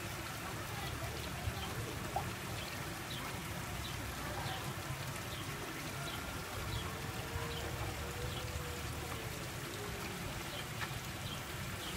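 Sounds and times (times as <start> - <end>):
water trickling into pond: 0.0 - 11.9.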